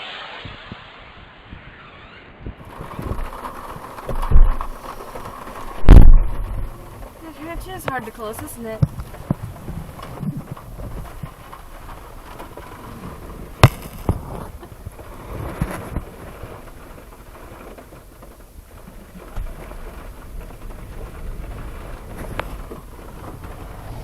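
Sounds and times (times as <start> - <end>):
rain: 0.0 - 1.0, 2.6 - 24.0
vehicle low rumble: 0.0 - 24.0
small thumps: 2.6 - 24.0.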